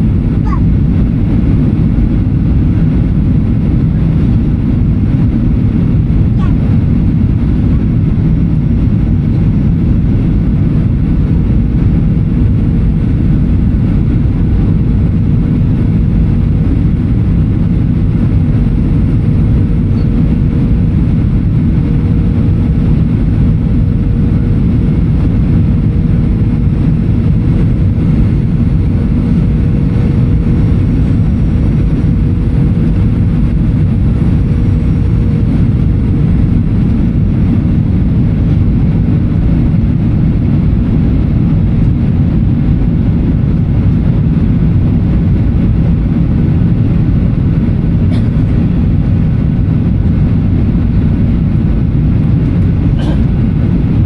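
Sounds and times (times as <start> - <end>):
airplane cabin engine and airflow rush: 0.0 - 54.0.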